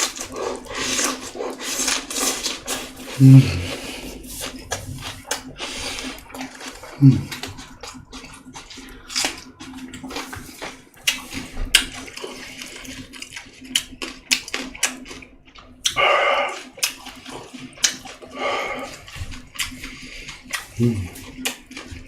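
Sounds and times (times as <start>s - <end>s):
wet chewing and lip smacking: 0.0s - 22.0s.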